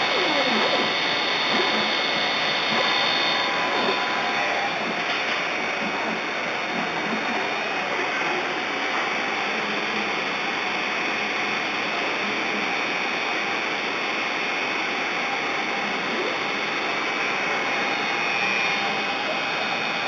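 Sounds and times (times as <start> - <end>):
machine hiss with high whine: 0.0 - 20.0.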